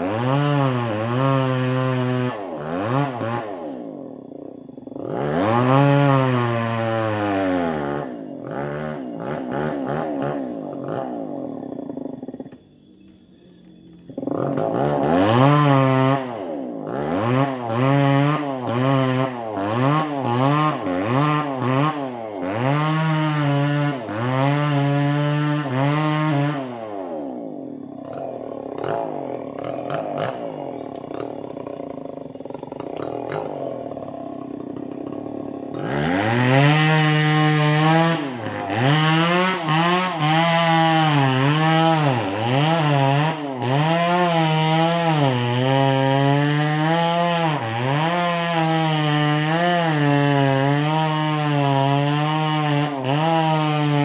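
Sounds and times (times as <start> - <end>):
two-stroke chainsaw running: 0.0 - 12.6, 14.1 - 54.0.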